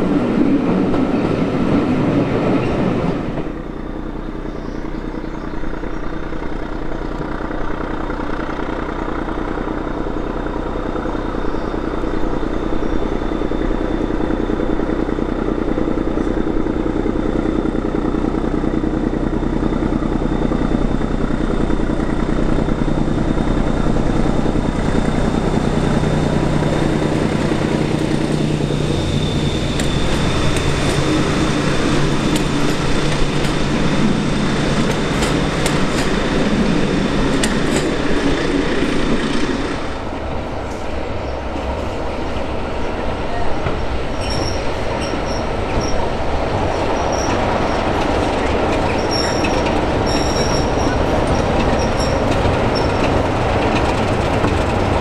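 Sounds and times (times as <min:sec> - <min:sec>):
diesel locomotive engine: 0:00.0 - 0:55.0
locomotive rumble: 0:00.0 - 0:55.0.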